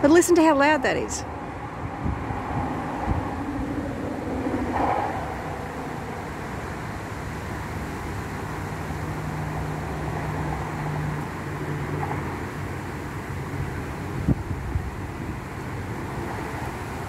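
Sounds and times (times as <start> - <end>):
motorway traffic: 0.0 - 17.0.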